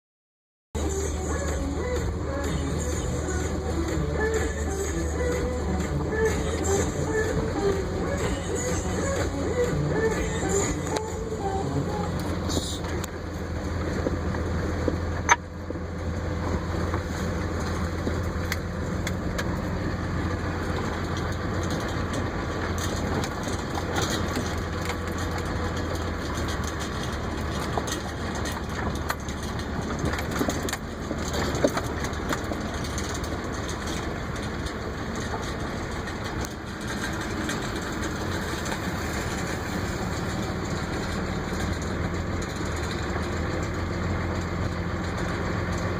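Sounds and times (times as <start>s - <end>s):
vehicle engine idling: 0.8s - 45.9s.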